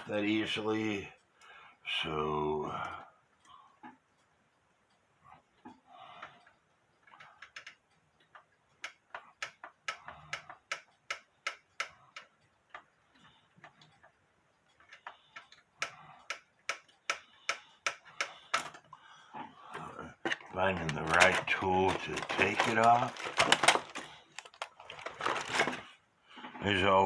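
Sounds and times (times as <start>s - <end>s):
mechanical clock ticking: 0.0s - 25.8s.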